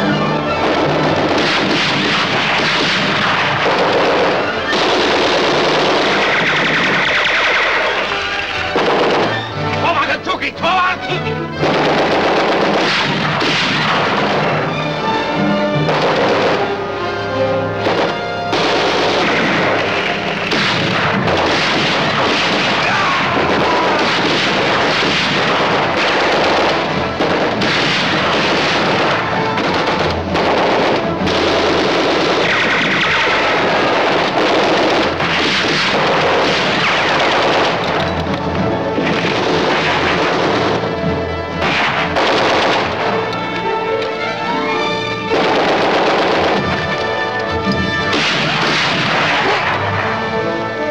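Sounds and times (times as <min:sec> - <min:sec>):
dramatic music: 0:00.0 - 0:50.9
gunfire: 0:00.5 - 0:17.0, 0:17.7 - 0:44.0, 0:44.7 - 0:50.9
explosions: 0:00.6 - 0:16.9, 0:17.8 - 0:43.4, 0:45.2 - 0:50.4.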